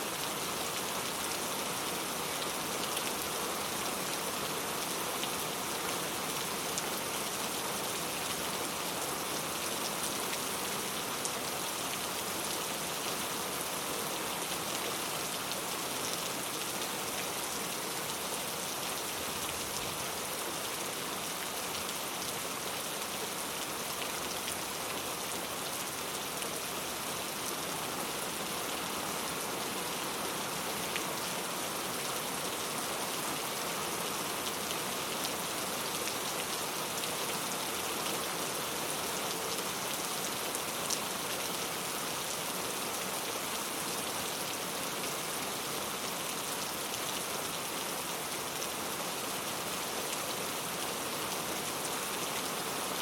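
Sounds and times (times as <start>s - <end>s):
rain hiss: 0.0s - 53.0s.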